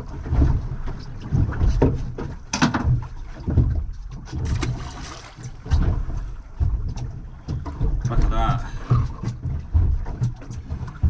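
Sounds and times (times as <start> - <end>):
sharp knocks and clicks: 1.3 - 11.0.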